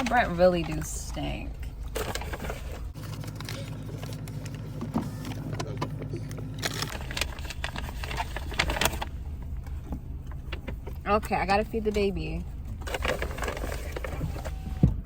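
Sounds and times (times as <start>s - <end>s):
clicks and rustles: 0.0s - 12.1s
car engine idling: 0.0s - 15.0s.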